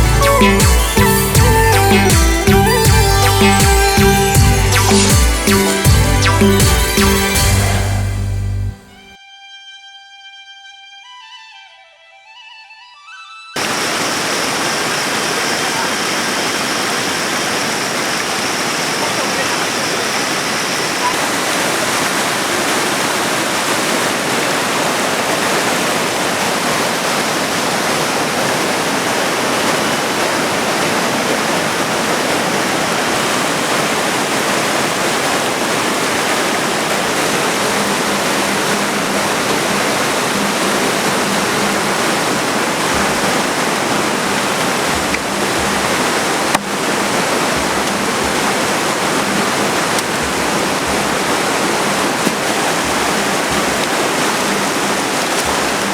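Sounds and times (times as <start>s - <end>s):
mountain river rushing: 0.0s - 8.9s, 13.6s - 55.9s.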